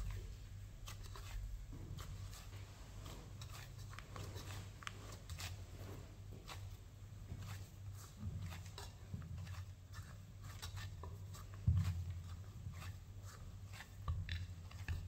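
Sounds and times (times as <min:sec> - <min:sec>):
hands kneading dough in bowl: 0:00.0 - 0:15.0.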